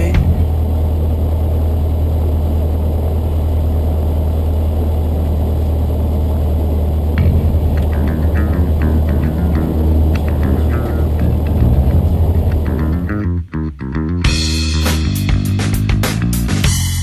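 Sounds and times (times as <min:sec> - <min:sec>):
small plane engine running: 0:00.0 - 0:17.0.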